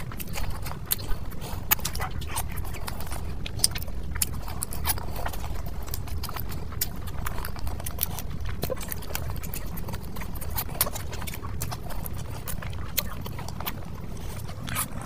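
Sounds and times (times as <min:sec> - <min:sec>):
chewing with lip smacks: 0:00.0 - 0:15.0
steady low hum: 0:00.0 - 0:15.0.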